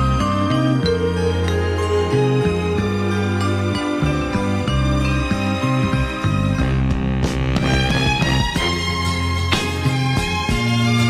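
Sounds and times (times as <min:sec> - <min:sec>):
instrumental background music: 0:00.0 - 0:11.0
steady bass line: 0:00.0 - 0:11.0.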